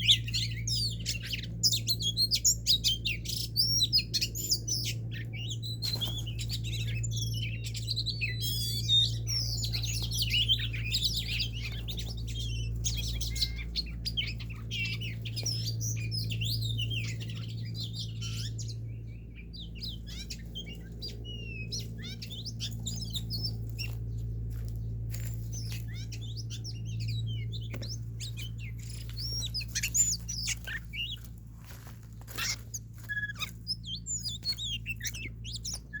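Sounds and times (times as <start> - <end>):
songbirds chirping: 0.0 - 36.0
steady low hum: 0.0 - 36.0.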